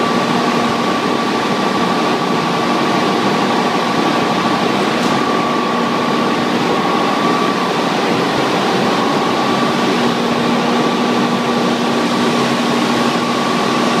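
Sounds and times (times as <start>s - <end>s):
water turbine whining: 0.0s - 14.0s.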